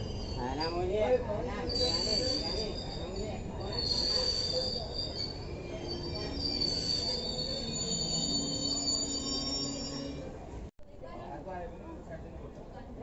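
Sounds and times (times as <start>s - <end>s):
train wheels squealing: 0.0s - 10.5s
train rumbling: 0.0s - 10.7s.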